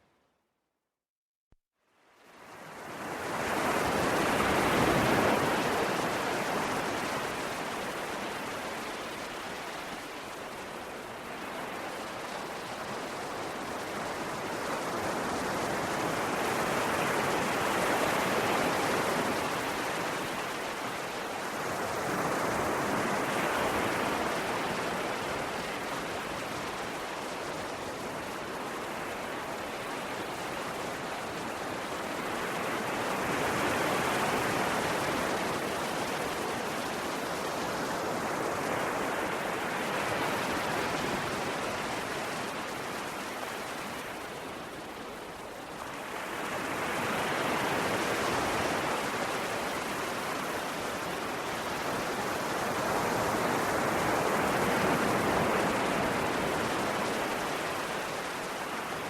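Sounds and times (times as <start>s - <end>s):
ocean waves washing: 3.0s - 59.0s.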